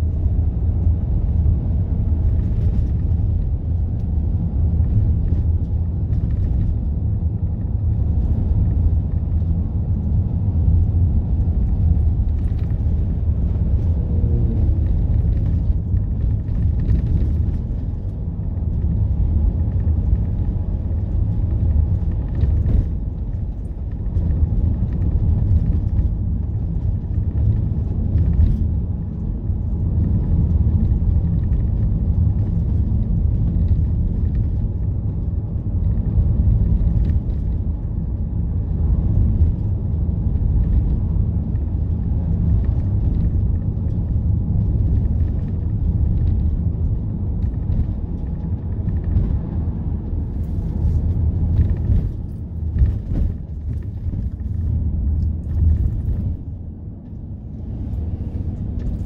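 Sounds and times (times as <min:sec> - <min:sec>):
road and engine noise in vehicle: 0:00.0 - 0:59.0.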